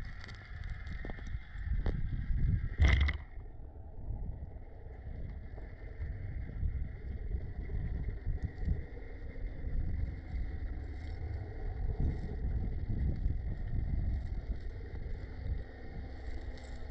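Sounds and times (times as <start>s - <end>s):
underwater rumble of moving water: 0.0s - 16.9s.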